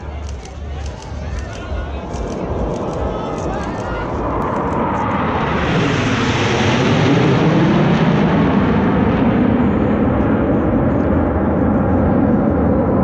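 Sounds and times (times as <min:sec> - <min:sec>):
jets flying low overhead: 0:00.0 - 0:13.0.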